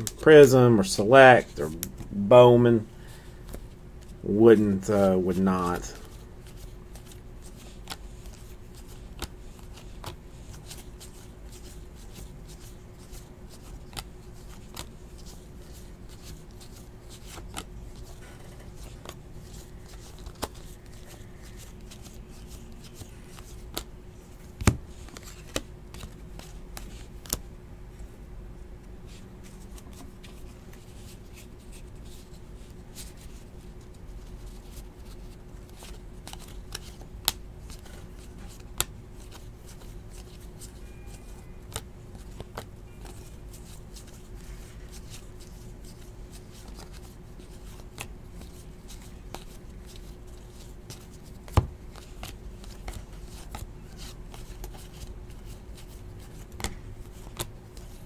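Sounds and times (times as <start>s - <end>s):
cards flipping with ticks: 0.0s - 1.0s, 1.6s - 2.2s, 3.1s - 27.5s, 29.1s - 58.0s
steady low hum: 0.0s - 58.0s.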